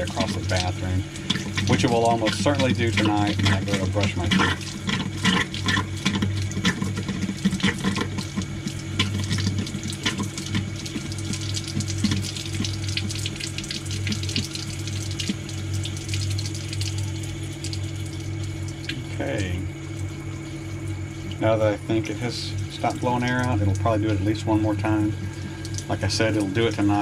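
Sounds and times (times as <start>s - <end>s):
faucet sputtering water: 0.0s - 27.0s
steady low hum: 0.0s - 27.0s.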